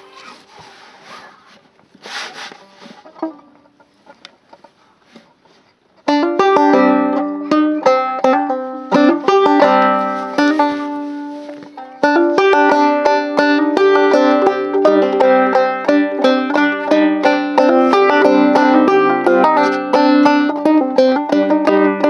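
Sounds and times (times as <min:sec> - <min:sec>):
banjo picking: 0:00.0 - 0:22.0.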